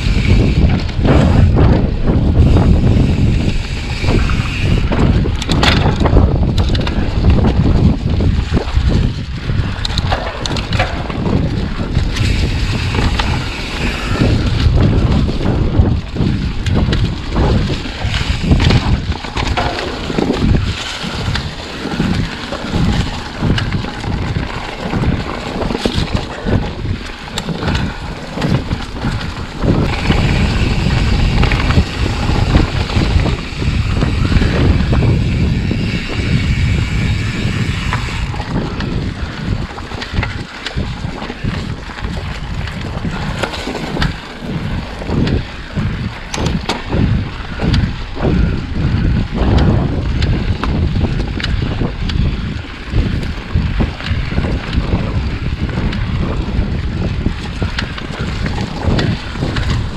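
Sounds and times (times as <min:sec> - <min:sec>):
bike clattering over bumps: 0:00.0 - 0:59.9
bike tyre noise on dirt: 0:00.0 - 0:59.9
wind buffeting microphone: 0:00.0 - 0:59.9.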